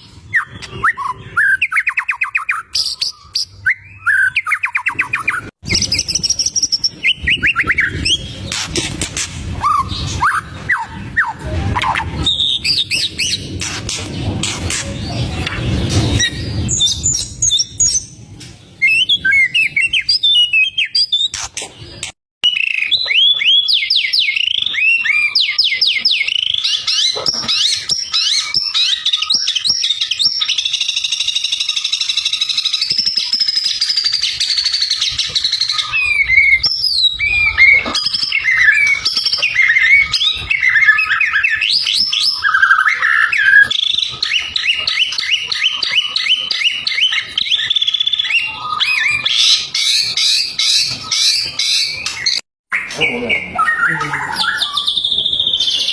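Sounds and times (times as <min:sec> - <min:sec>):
bird singing whistled warbles: 0:00.0 - 0:18.2, 0:18.8 - 0:55.9.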